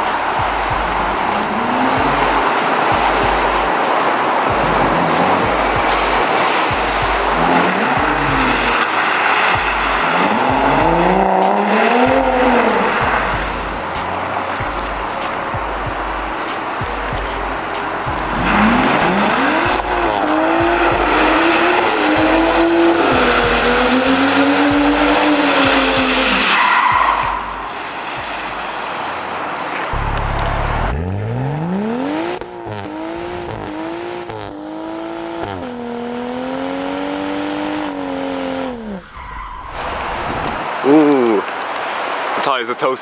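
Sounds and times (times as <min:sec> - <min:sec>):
tyres spinning and squealing: 0:00.0 - 0:32.3, 0:38.5 - 0:43.0
car engine revving hard: 0:00.0 - 0:39.1.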